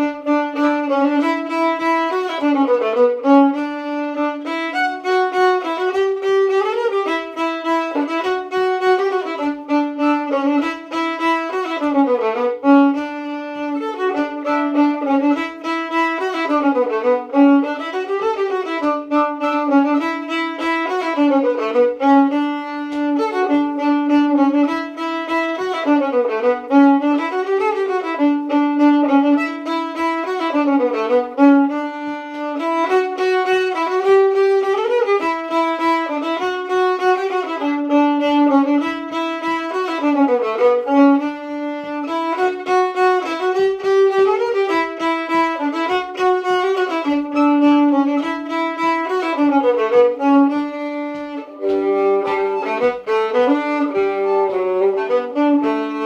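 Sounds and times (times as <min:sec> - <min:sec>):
fiddle drone note: 0:00.0 - 0:56.0
fiddle playing dance tune: 0:00.0 - 0:56.0.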